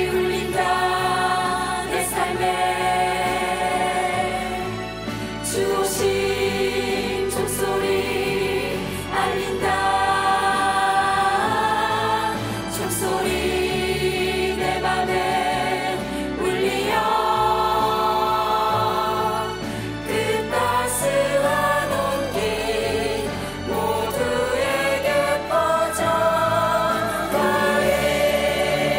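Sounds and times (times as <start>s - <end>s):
choir singing: 0.0s - 28.9s
instrumental accompaniment: 0.2s - 28.9s.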